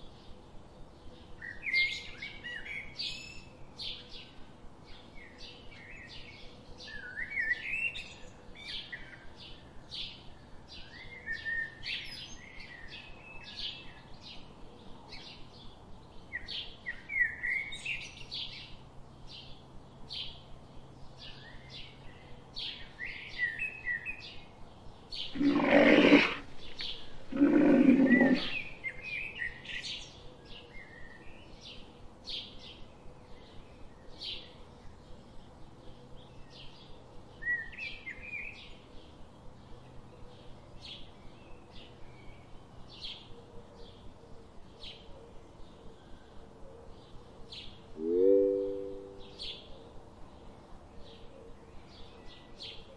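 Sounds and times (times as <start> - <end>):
small birds chirping: 0.9 - 52.9.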